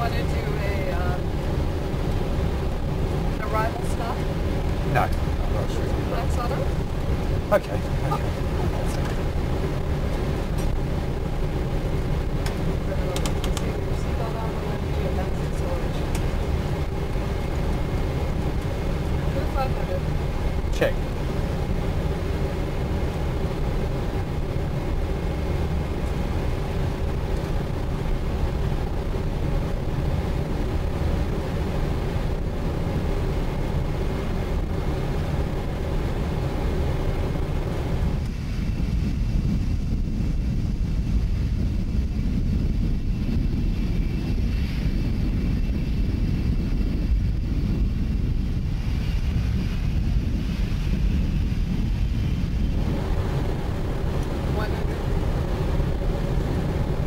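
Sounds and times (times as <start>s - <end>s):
airflow and engine rumble: 0.0s - 57.0s
steady whining tones: 0.0s - 57.0s.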